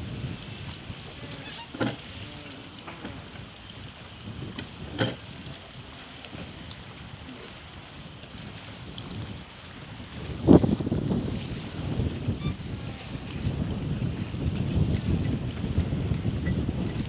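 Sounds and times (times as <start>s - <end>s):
water sounds: 0.0s - 17.0s
wind rumbling on microphone: 0.0s - 17.0s.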